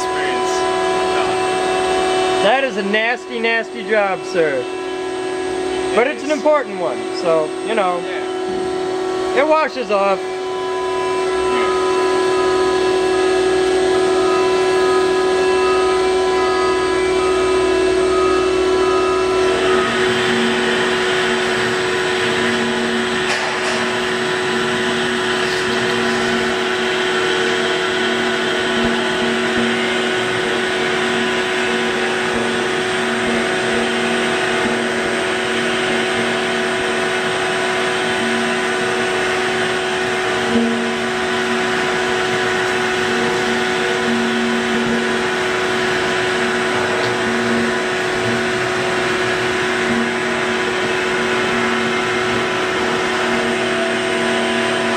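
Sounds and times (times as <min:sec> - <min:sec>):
pulsing motor drone: 0:00.0 - 0:54.9.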